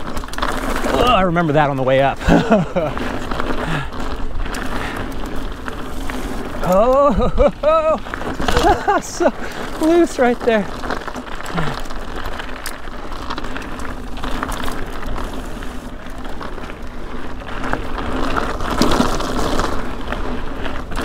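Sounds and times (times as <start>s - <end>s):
bike clicks and rattles: 0.0s - 21.0s
tyres crunching over gravel: 0.0s - 21.0s.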